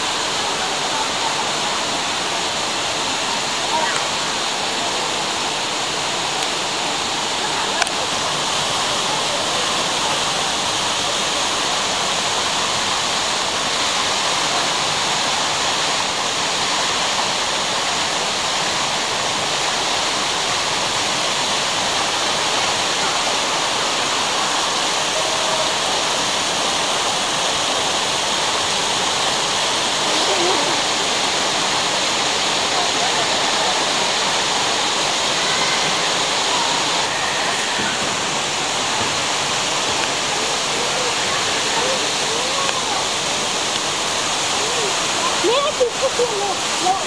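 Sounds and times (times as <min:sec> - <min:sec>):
fountain water splashing: 0:00.0 - 0:47.0.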